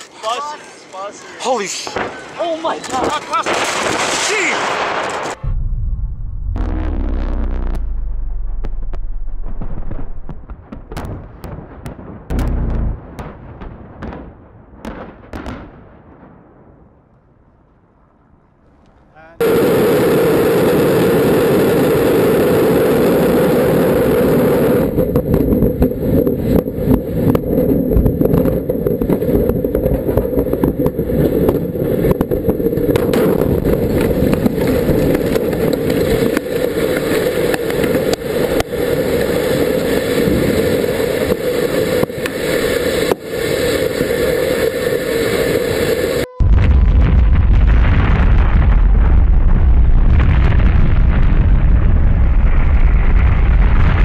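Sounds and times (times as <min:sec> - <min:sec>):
rocket roaring and crackling: 0:02.9 - 0:17.0, 0:19.3 - 0:54.0.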